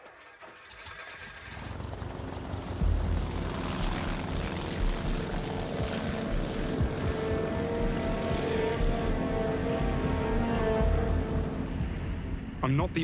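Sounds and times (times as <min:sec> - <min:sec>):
small aircraft engine and propeller: 0:00.1 - 0:12.0.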